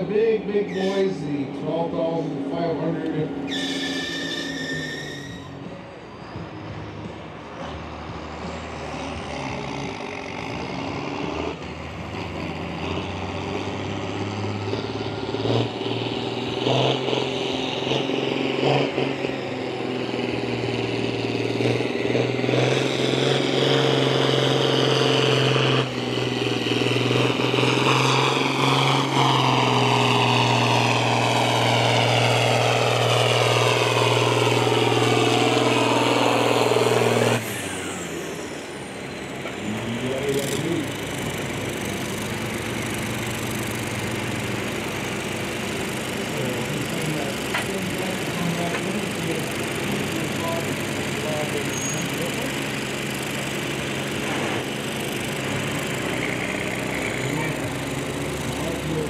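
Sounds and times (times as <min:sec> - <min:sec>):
tractor engine working hard: 0:00.0 - 0:59.0.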